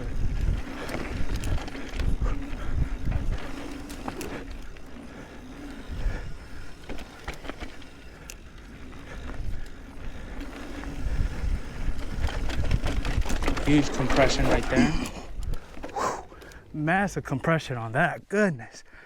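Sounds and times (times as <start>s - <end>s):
bike rattles and knocks: 0.0s - 16.1s
bike tyres rumbling over dirt: 0.0s - 16.4s.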